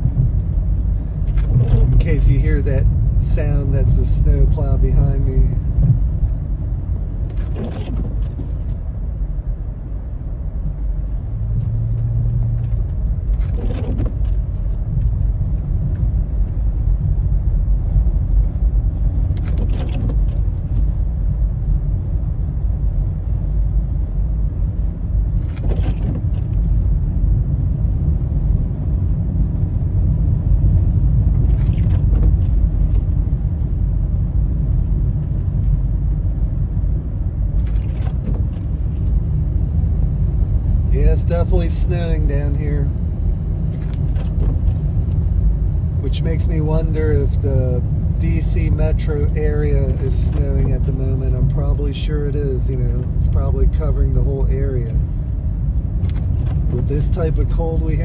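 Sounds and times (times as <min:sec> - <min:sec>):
truck engine low rumble: 0:00.0 - 0:58.0.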